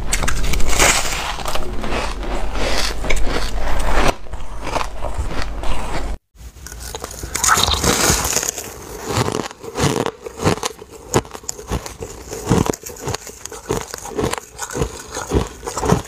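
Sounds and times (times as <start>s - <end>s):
chewing crunchy shaved ice: 0.2s - 16.0s.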